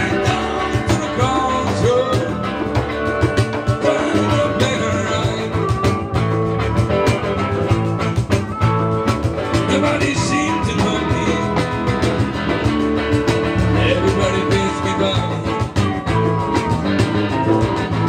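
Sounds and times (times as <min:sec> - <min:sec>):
harmonica: 0:00.0 - 0:12.3, 0:13.3 - 0:18.0
live rock band playing: 0:00.0 - 0:18.0.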